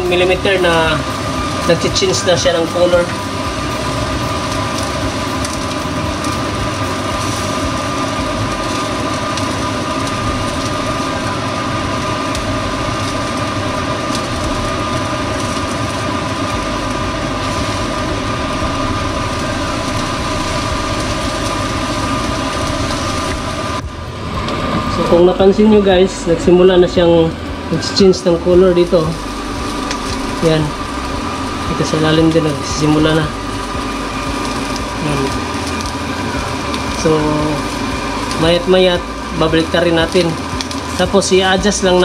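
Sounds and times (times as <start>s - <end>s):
fish sizzling in a pan: 0.0s - 25.0s, 25.9s - 42.0s
constant humming tone: 0.0s - 42.0s.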